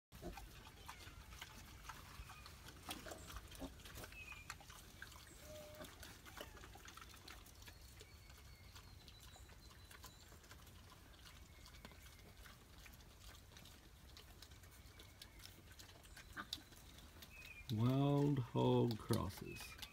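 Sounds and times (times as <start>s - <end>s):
piglets grunting and squeaking: 0.2s - 19.9s.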